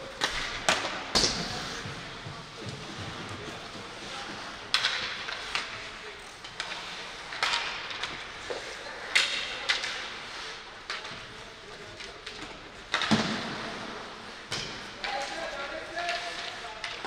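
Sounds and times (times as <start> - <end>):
hockey sticks and puck clacking: 0.0 - 17.0
skates scraping ice: 0.0 - 17.0.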